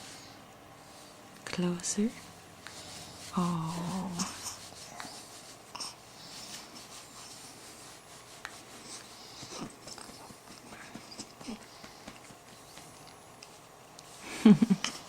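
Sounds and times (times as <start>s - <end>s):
faint rustling and handling: 0.0s - 14.3s.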